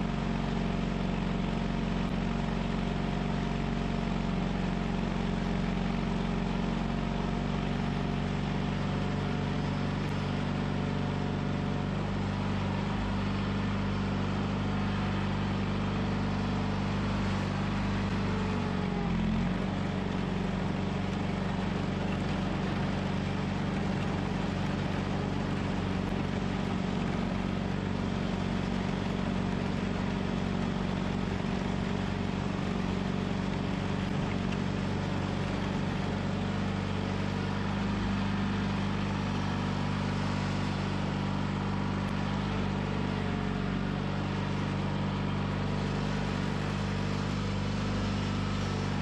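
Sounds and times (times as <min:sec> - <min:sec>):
plow blade pushing snow: 0:00.0 - 0:49.0
tractor engine running: 0:00.0 - 0:49.0.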